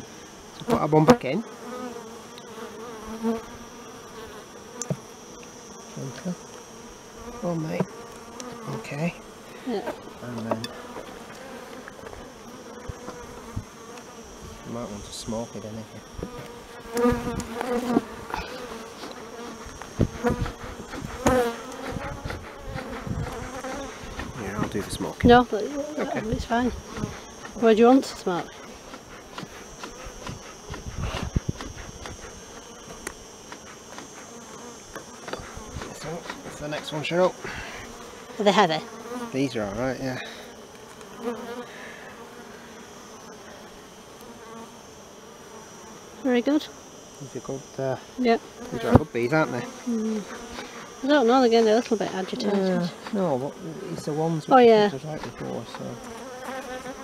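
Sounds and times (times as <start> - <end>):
bees flying past microphone: 0.0 - 47.2, 48.4 - 57.0
honey bees buzzing: 0.0 - 57.0.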